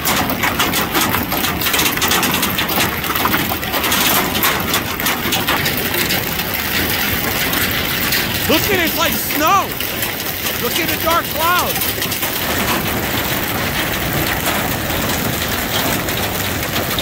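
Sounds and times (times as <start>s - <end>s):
hail clattering on metal and glass: 0.0s - 17.0s.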